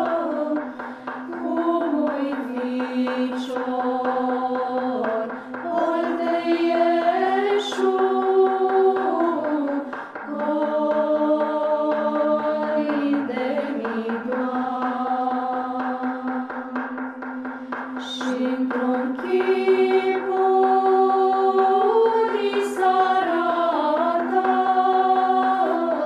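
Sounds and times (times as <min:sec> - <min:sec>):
women's choir singing a cappella: 0:00.0 - 0:26.0.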